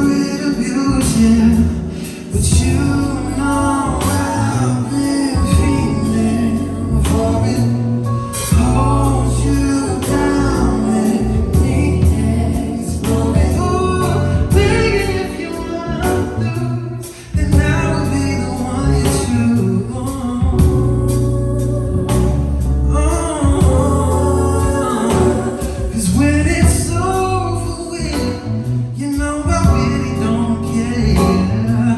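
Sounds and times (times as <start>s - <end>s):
band with strong bass line: 0.0s - 31.9s
person singing: 0.0s - 31.9s.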